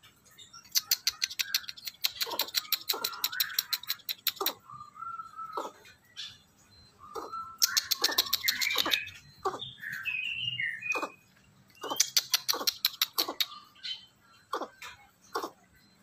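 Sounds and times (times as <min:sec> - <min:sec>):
bird clicking chirping and whistling: 0:00.5 - 0:06.4, 0:07.1 - 0:15.6.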